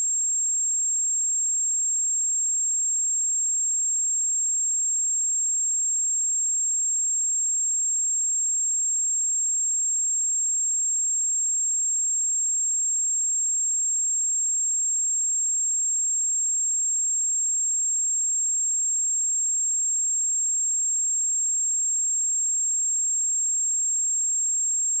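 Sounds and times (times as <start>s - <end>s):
high-pitched sine-wave test tone: 0.0s - 25.0s.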